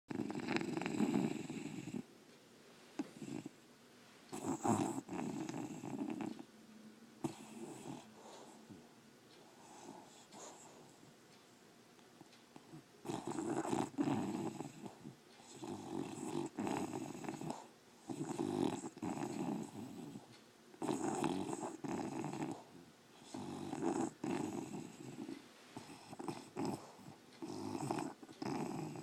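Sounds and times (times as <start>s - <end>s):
dog snoring loudly: 0.1s - 2.1s, 3.0s - 3.6s, 4.3s - 6.4s, 7.2s - 8.8s, 9.6s - 11.0s, 12.6s - 29.0s.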